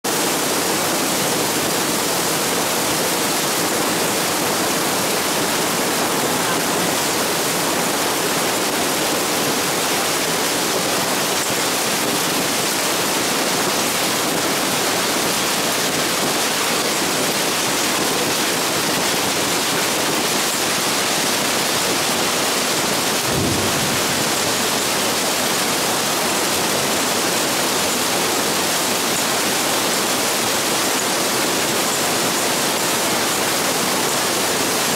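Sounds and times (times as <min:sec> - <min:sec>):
hail and heavy rain pelting: 0:00.0 - 0:34.9.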